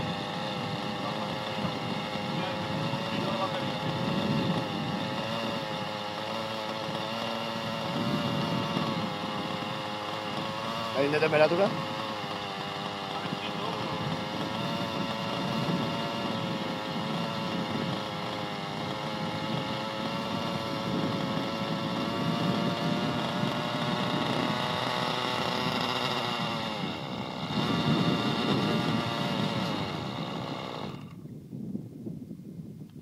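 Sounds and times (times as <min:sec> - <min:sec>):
model helicopter engine buzzing: 0:00.0 - 0:31.4.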